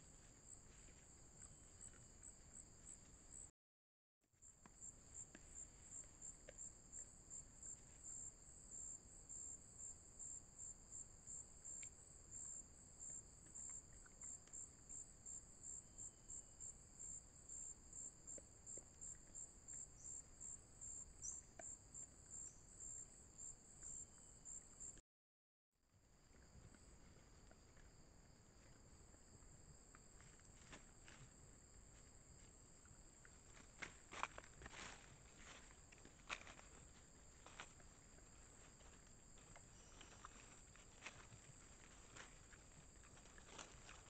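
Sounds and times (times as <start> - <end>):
insects chirping: 0.0 - 3.5, 4.4 - 25.0, 26.2 - 44.0.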